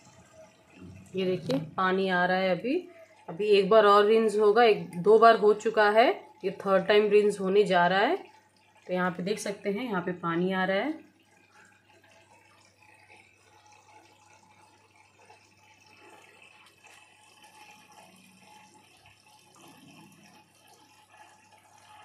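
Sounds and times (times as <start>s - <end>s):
washing machine taking in water: 0.0s - 22.0s.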